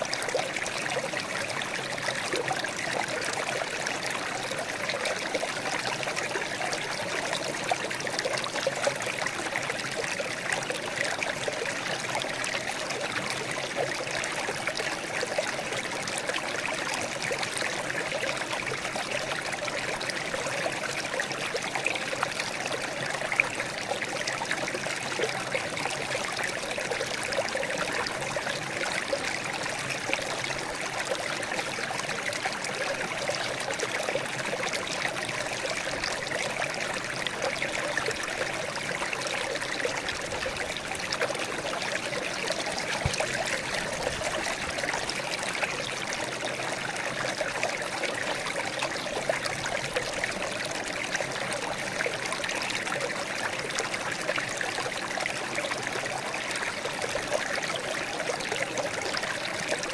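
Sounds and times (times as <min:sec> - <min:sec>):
water trickling and burbling: 0:00.0 - 0:59.9.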